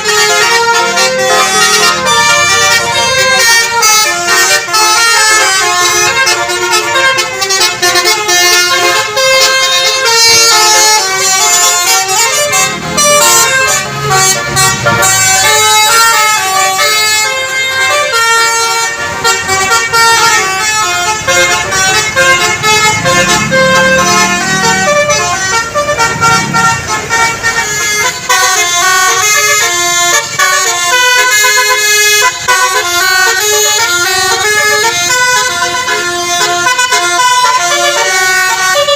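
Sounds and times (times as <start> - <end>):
bus air horn playing melodies: 0.0 - 38.9.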